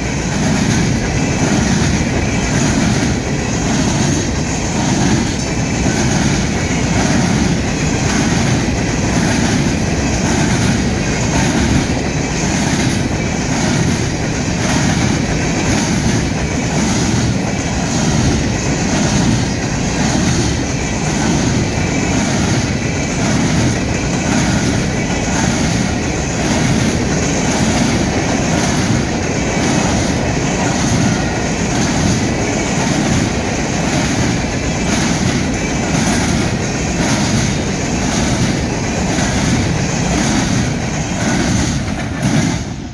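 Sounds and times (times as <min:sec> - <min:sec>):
clickety-clack over rail joints: 0:00.0 - 0:42.9
rumble of wheels on rail: 0:00.0 - 0:42.9.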